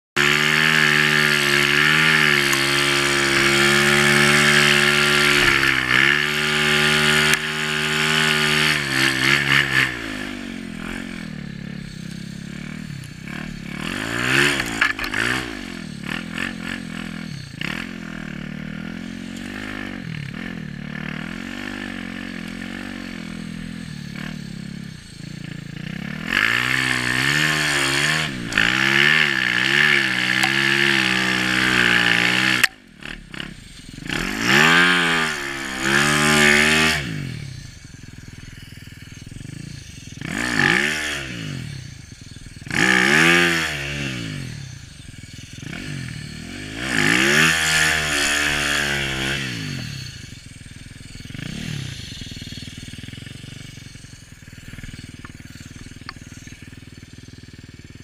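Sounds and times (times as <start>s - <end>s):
motorbike engine revving: 0.2s - 58.0s.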